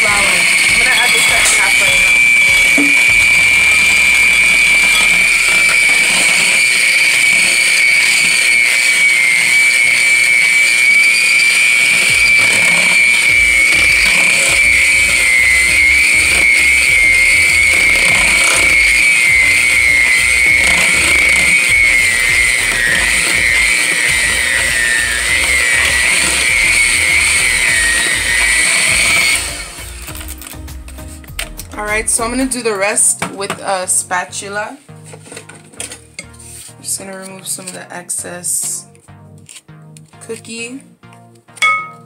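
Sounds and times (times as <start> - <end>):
electric hand mixer whining: 0.0 - 36.3, 41.6 - 42.0.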